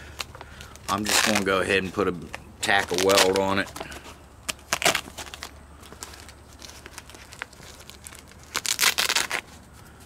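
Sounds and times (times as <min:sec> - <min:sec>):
fabric rustling and crinkling: 0:00.4 - 0:09.8
velcro ripping: 0:00.8 - 0:03.8, 0:04.4 - 0:09.6.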